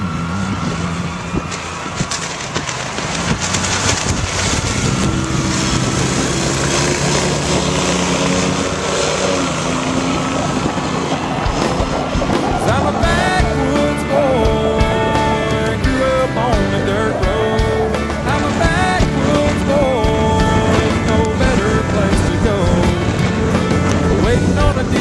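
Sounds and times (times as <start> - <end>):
mud motor running at high speed: 0.0 - 25.0.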